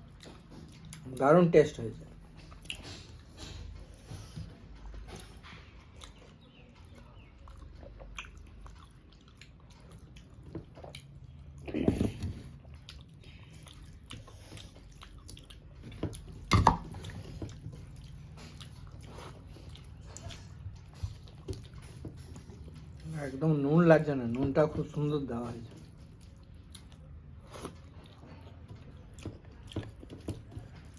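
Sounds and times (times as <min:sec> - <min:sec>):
person chewing food: 0:00.0 - 0:01.3, 0:02.1 - 0:30.9.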